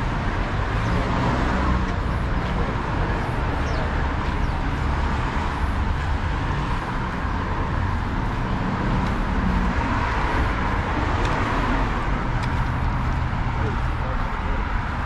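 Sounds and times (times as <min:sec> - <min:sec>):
cars passing on a street: 0:00.0 - 0:15.0.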